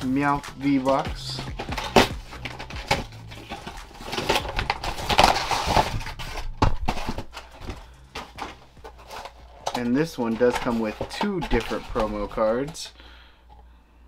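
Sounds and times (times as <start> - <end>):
plastic tray crackling: 0.2 - 13.0
cardboard tearing: 0.6 - 12.8.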